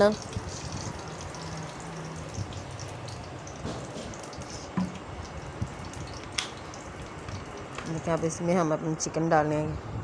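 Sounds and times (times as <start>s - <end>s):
oil sizzling in frying pan: 0.0s - 8.2s
oil popping and crackling: 0.0s - 8.6s.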